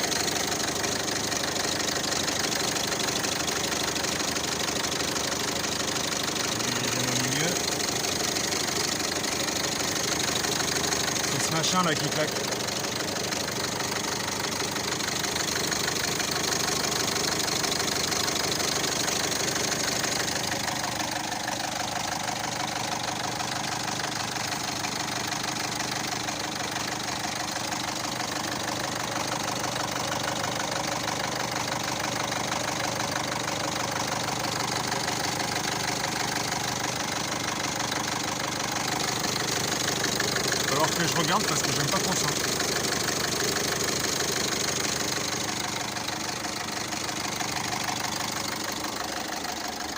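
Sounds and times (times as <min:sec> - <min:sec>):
car engine idling: 0:00.0 - 0:49.9
rapid clacking from engine bay: 0:00.0 - 0:49.9.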